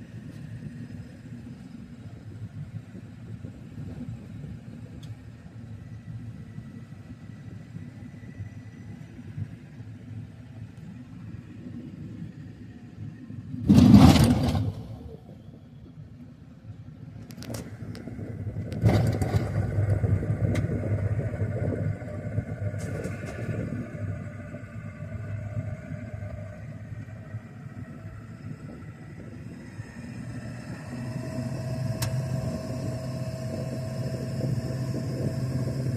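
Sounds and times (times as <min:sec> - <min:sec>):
engine and road noise rumble: 0:00.0 - 0:35.9.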